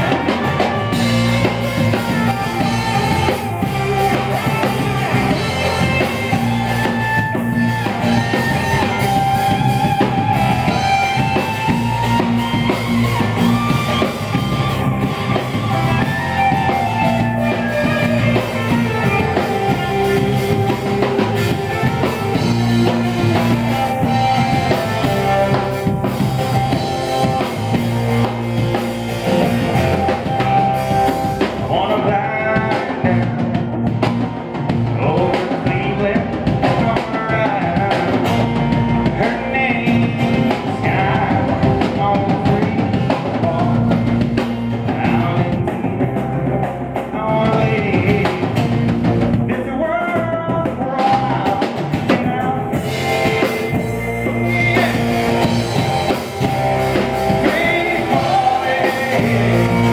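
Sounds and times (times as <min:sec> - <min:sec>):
drum kit: 0:00.0 - 0:59.9
electric bass: 0:00.0 - 0:59.9.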